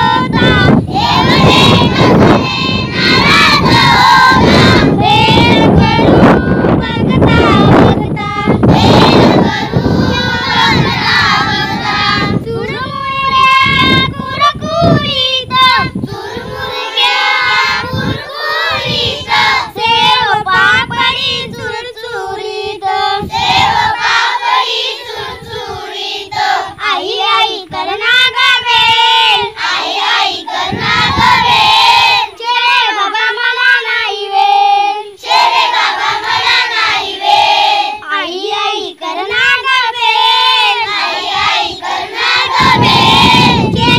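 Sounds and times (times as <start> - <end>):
children singing in unison: 0.0 - 43.9.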